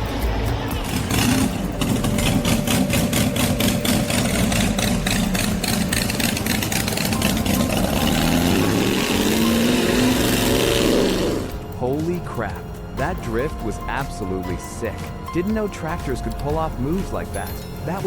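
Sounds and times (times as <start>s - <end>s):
tractor engine pulsing: 0.0s - 14.7s.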